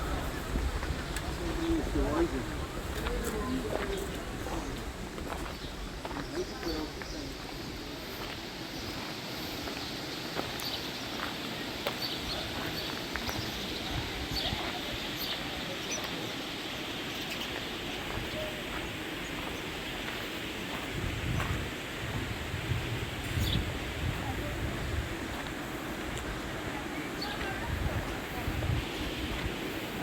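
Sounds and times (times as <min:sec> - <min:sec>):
steady rushing hiss: 0:00.0 - 0:30.0.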